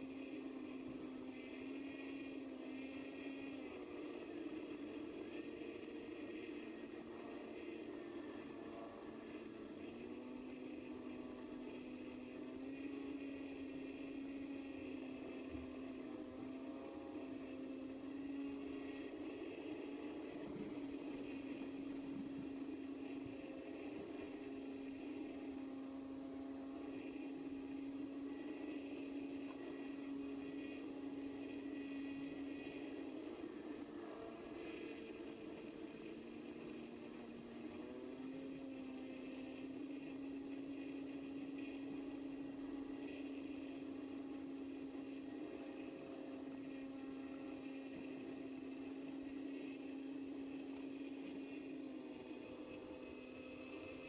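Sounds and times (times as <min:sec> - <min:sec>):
electric motor and propeller hum: 0:00.0 - 0:54.0.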